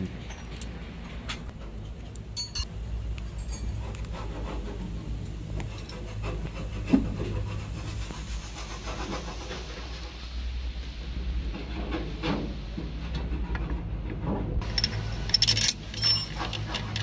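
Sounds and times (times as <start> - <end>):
metal rubbing and scraping: 3.3 - 17.0.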